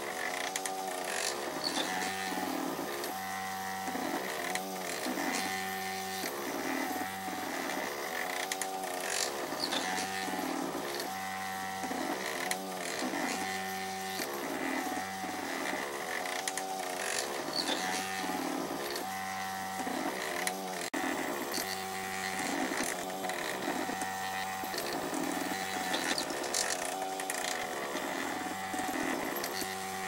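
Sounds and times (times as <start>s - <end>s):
stepper motors whining: 0.0s - 30.0s.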